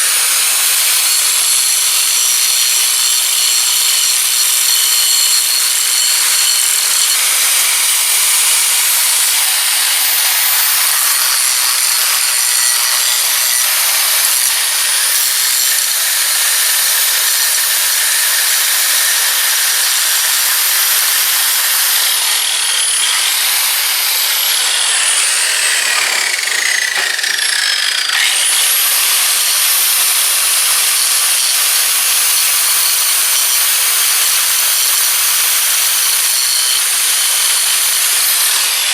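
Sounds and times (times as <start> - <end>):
angle grinder grinding steel: 0.0 - 38.9.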